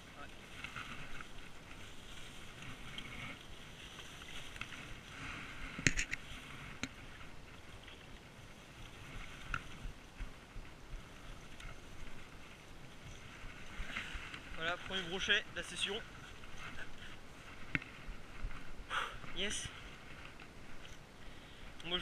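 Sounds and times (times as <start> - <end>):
grass rustling: 0.0 - 22.0
light water sounds: 0.2 - 18.7.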